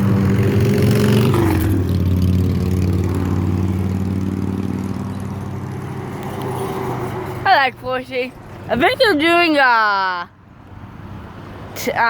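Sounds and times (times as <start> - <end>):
diesel truck engine passing: 0.0 - 11.9.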